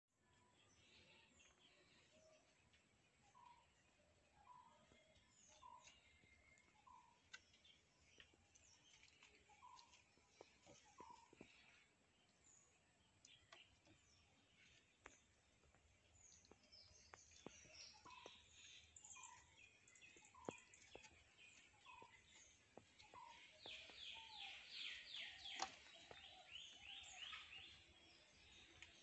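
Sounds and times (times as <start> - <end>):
faint birds calling: 0.2 - 29.0.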